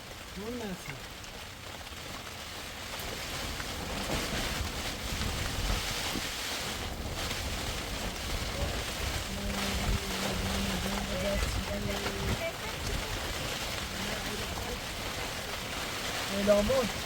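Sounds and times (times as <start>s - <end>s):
storm wind buffeting microphone: 3.0s - 17.0s.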